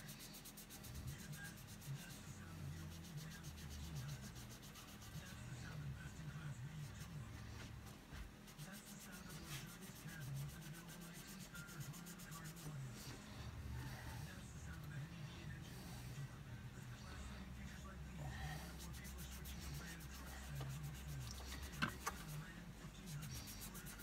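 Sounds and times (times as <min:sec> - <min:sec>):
cloth rubbing on metal: 0:00.0 - 0:06.1, 0:06.7 - 0:16.2, 0:18.2 - 0:24.0.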